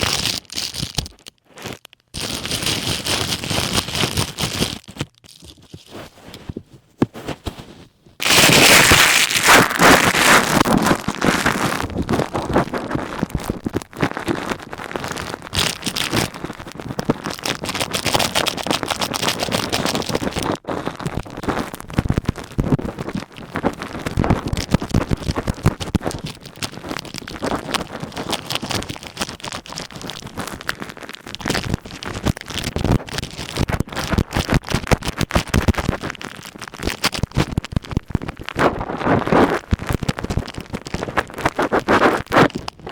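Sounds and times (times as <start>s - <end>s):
ear pick scratching plastic: 0.0s - 42.9s.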